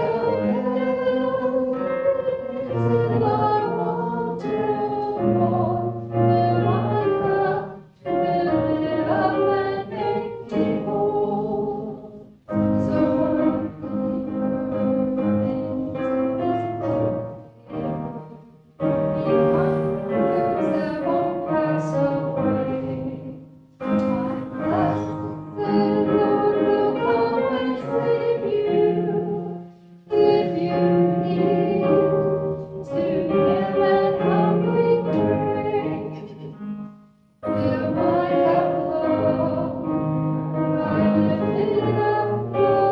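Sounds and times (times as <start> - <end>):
voices singing a sacred song: 0.0 - 36.5, 37.4 - 42.9
instrumental accompaniment: 0.0 - 42.9.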